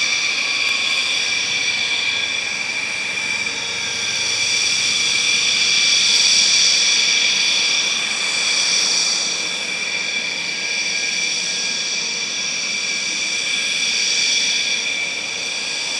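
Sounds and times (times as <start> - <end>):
jet engines whining: 0.0 - 15.9.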